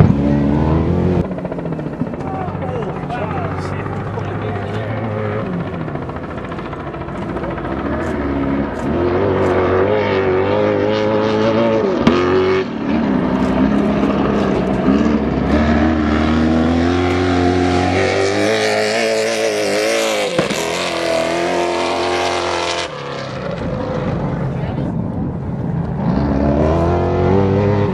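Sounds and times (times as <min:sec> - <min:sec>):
race truck engine revving: 0:00.0 - 0:27.9.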